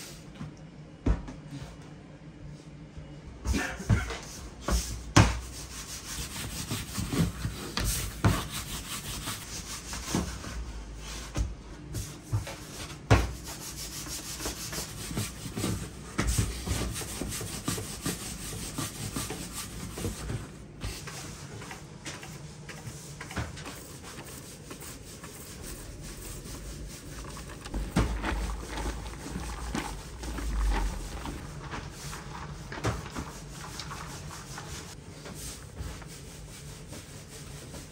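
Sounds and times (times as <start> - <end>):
rolling pin rubbing on dough: 3.6 - 11.4, 12.0 - 37.9.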